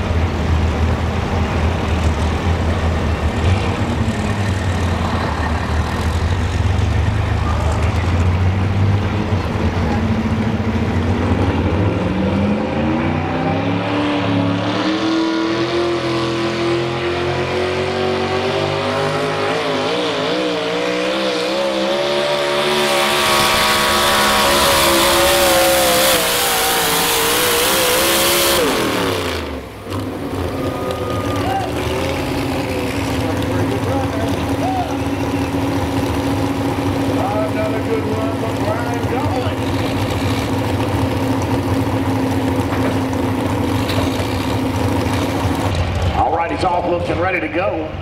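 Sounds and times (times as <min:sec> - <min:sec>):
truck engine revving: 0:00.0 - 0:48.0.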